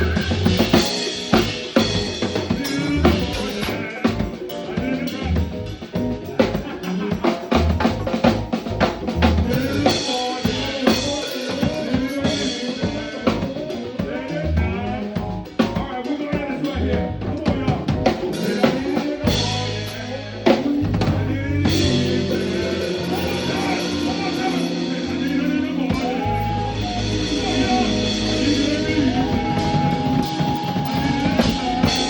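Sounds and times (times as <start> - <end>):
live band music: 0.0 - 32.0.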